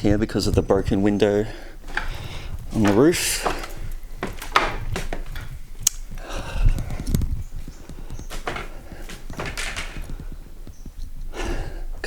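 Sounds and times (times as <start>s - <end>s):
footsteps on a wet floor: 0.5s - 10.7s.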